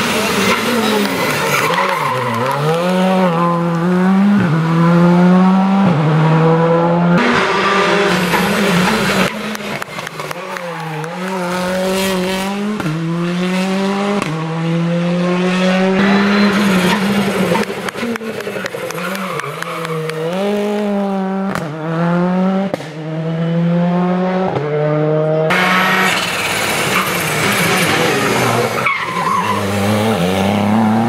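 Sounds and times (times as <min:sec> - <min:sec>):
rally car engine accelerating: 0:00.0 - 0:31.0.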